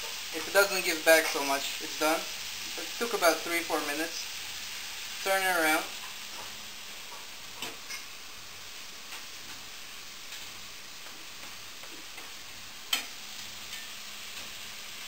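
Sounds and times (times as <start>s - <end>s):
steak sizzling in a pan: 0.0s - 15.0s.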